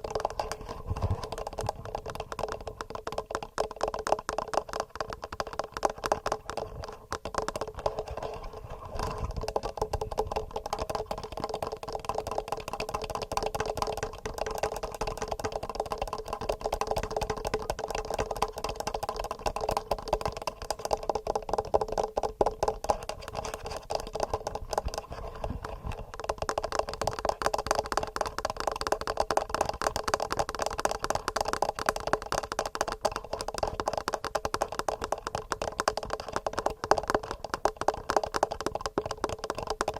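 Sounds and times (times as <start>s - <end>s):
fingernails tapping on recorder: 0.0s - 8.2s, 9.2s - 39.9s.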